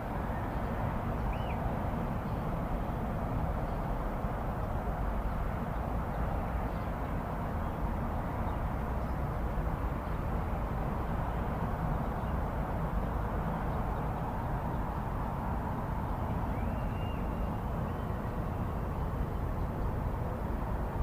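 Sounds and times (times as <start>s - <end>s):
distant road traffic hum: 0.0s - 21.0s.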